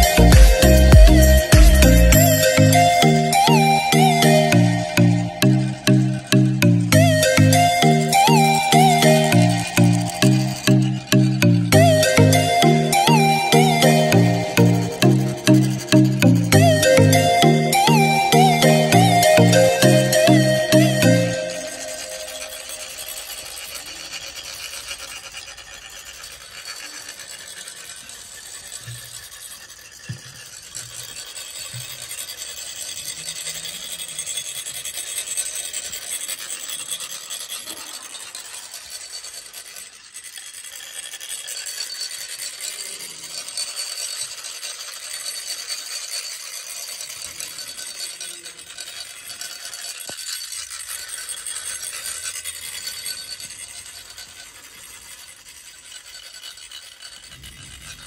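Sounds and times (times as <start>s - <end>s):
rods rasping on ridged funnels: 0.0s - 58.0s.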